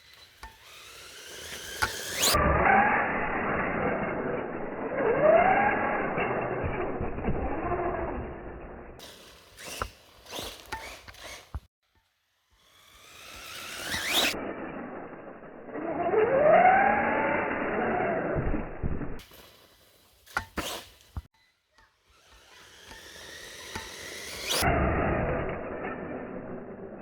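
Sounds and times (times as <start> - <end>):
electric motor whining: 0.1 - 11.7, 12.6 - 19.2, 22.1 - 26.9.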